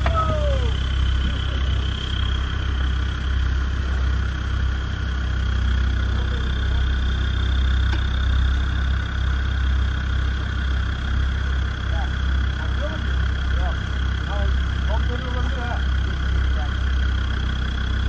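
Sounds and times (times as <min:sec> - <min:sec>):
high whine: 0:00.0 - 0:18.0
vehicle engine running low: 0:00.0 - 0:18.0.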